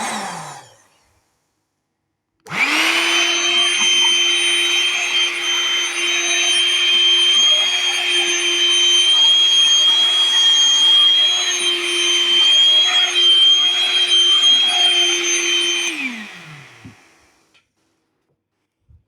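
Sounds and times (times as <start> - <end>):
vacuum cleaner motor whining: 0.0 - 1.2, 2.5 - 17.5.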